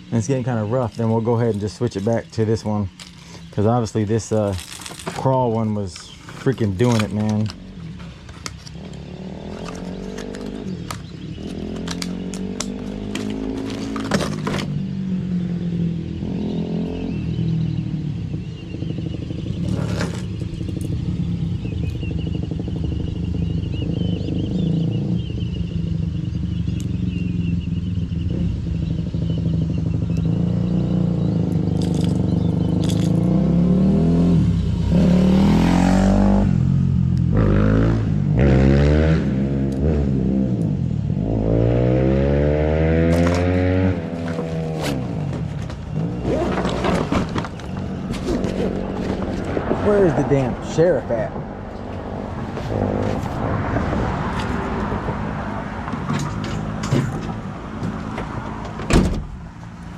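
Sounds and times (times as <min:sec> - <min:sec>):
vehicle engine running: 0:00.0 - 0:37.9, 0:42.7 - 0:59.9
road noise: 0:00.0 - 0:59.9.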